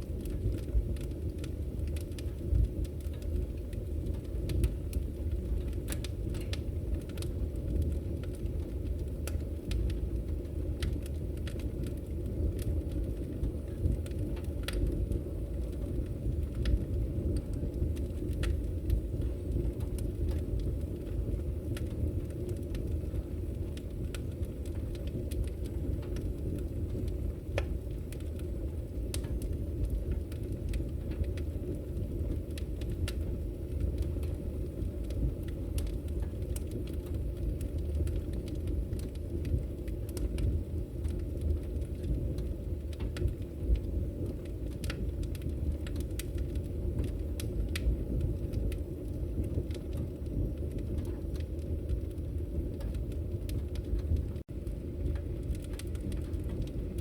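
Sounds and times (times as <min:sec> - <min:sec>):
logs crackling and popping: 0:00.0 - 0:57.0
low roar of flames: 0:00.0 - 0:57.0.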